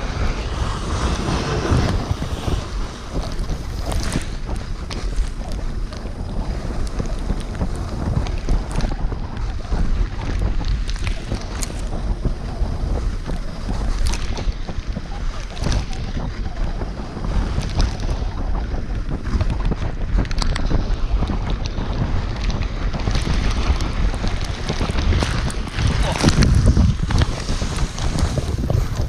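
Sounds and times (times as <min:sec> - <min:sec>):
sled runners scraping on snow: 0:00.0 - 0:29.0
wind buffeting microphone: 0:00.0 - 0:29.0.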